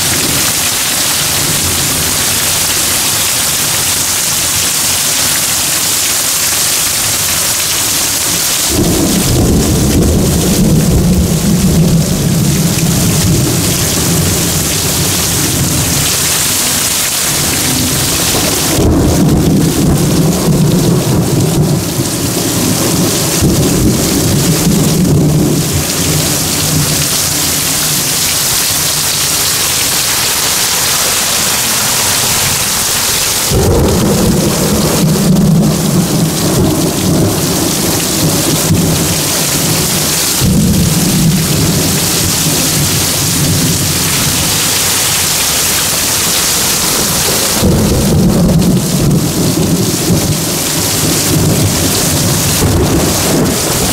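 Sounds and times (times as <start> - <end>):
heavy rain pouring: 0.0 - 53.9
thunder rumbling: 8.2 - 53.9.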